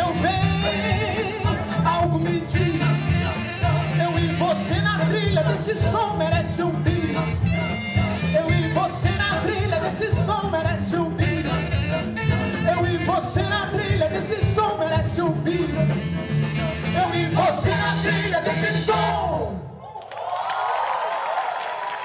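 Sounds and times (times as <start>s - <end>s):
live band playing: 0.0s - 19.7s
singers: 0.0s - 19.8s.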